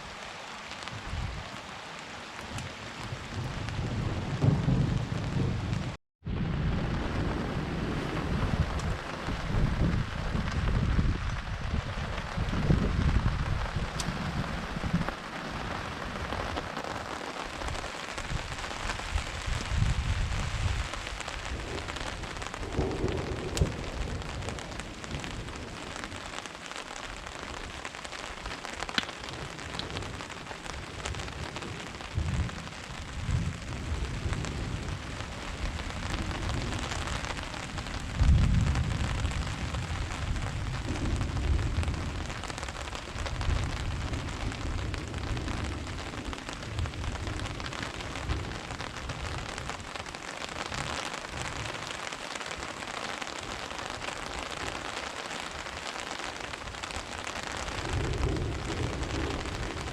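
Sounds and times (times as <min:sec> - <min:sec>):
steady rain: 0:00.0 - 0:59.9
thunder rumbling: 0:02.4 - 0:59.9.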